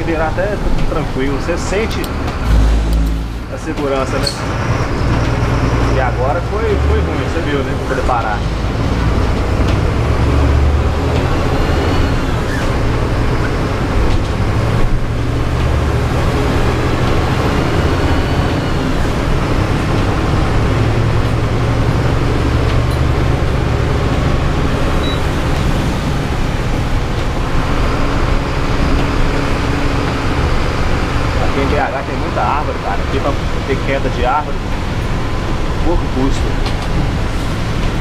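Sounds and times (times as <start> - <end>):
bus engine drone: 0.0 - 38.0
heavy rain: 0.0 - 38.0.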